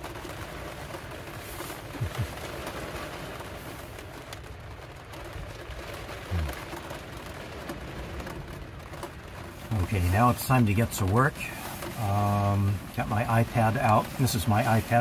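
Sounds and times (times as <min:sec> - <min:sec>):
rain tapping on a roof: 0:00.0 - 0:15.0.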